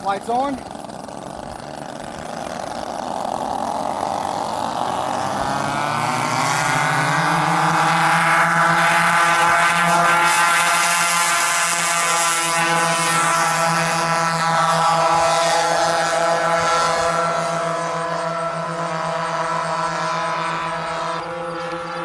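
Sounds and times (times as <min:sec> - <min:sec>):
model plane engines running: 0:00.0 - 0:22.0.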